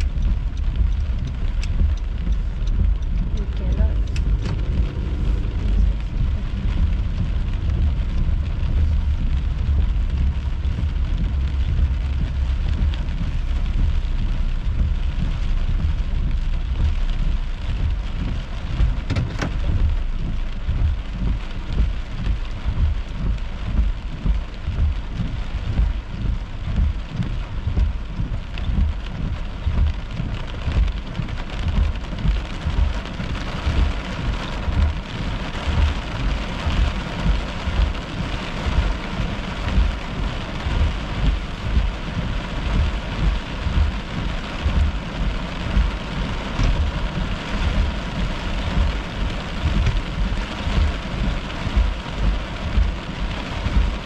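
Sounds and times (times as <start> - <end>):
deep rumble: 0.0 - 54.0
heavy rain drumming on car roof: 0.0 - 54.0.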